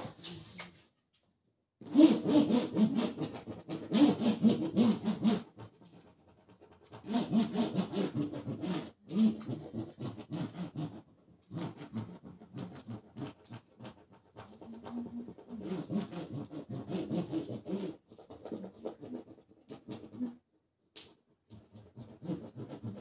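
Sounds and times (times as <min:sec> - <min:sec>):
hand rubbing packing tape on cardboard: 0:01.9 - 0:23.0.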